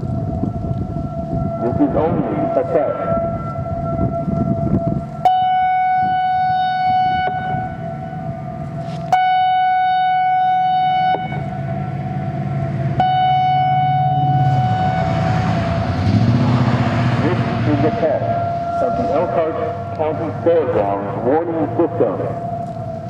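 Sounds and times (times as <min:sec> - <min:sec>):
low rumble: 0:00.0 - 0:23.0
warning siren steady tone: 0:00.0 - 0:23.0
fainter lower tone: 0:01.4 - 0:23.0.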